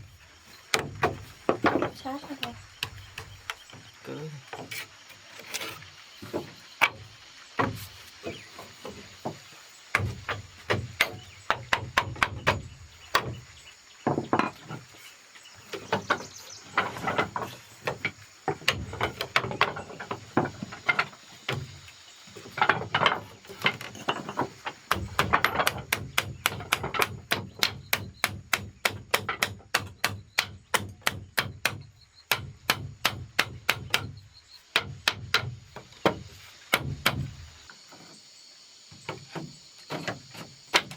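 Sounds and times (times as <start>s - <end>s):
hand tool striking wood: 0.7s - 3.9s, 4.5s - 15.0s, 15.6s - 37.6s, 39.0s - 40.9s.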